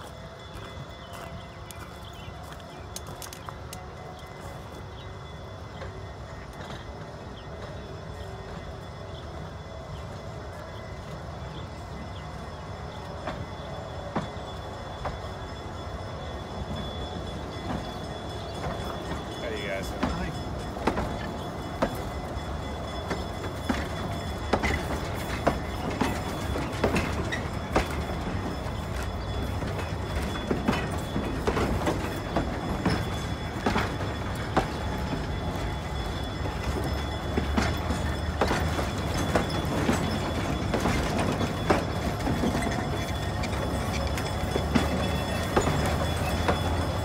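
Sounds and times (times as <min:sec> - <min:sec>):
low rumble of rolling train cars: 0:00.0 - 0:47.0
train wheels clicking over rail joints: 0:00.0 - 0:47.0.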